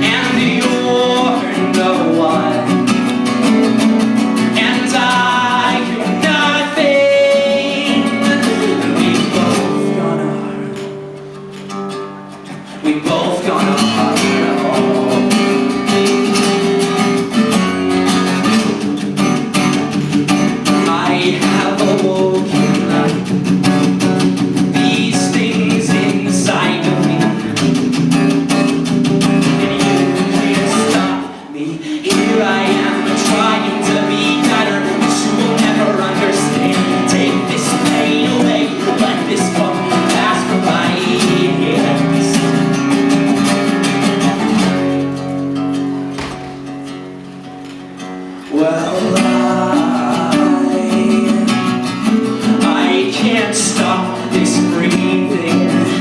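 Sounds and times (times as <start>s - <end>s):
strummed guitar: 0.0s - 56.0s.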